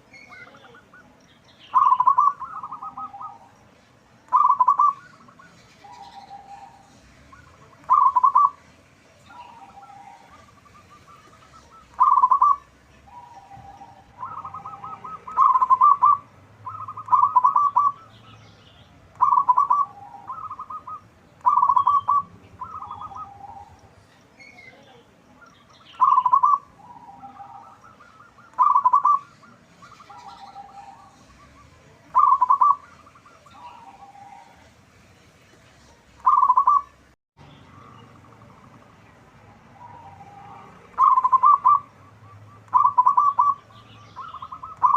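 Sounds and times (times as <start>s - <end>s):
dove cooing: 1.7s - 3.6s, 4.3s - 18.4s, 19.1s - 24.0s, 25.6s - 34.8s, 36.2s - 37.0s, 37.7s - 44.9s.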